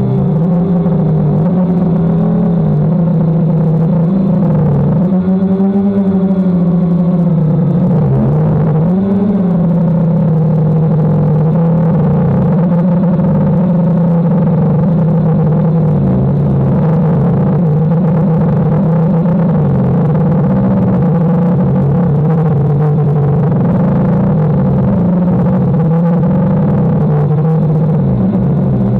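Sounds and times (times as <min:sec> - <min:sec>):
drone propellers humming: 0:00.0 - 0:28.9.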